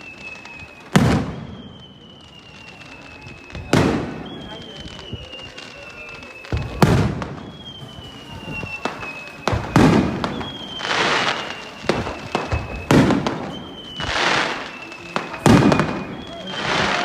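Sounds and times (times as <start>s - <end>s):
crackling firework shower: 0.0s - 17.0s
faint falling whistle: 0.0s - 17.0s.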